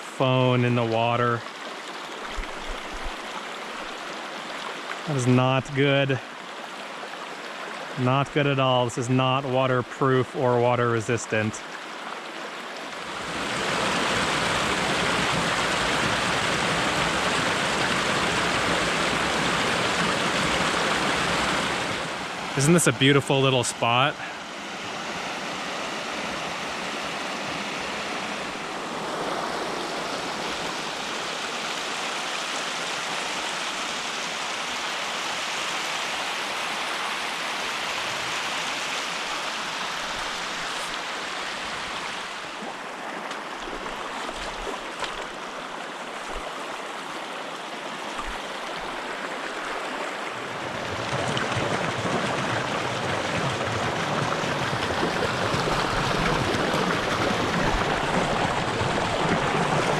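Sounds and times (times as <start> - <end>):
creek running over rocks: 0.0 - 59.9.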